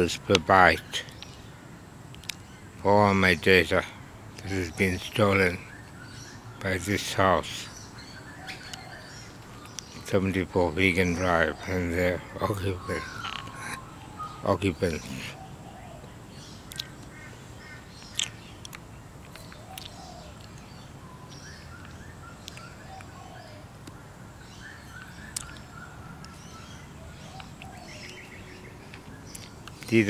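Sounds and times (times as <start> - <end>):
birds chirping: 0.0 - 30.0
low background noise: 0.0 - 30.0.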